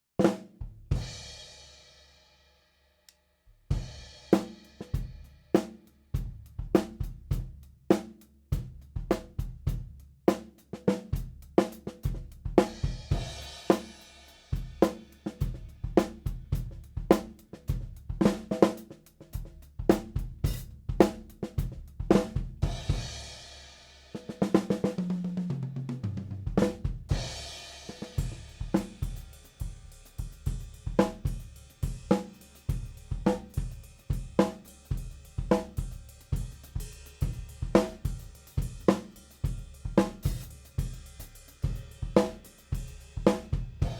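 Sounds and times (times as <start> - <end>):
drum kit beat: 0.2 - 1.4, 3.7 - 23.6, 24.2 - 43.9.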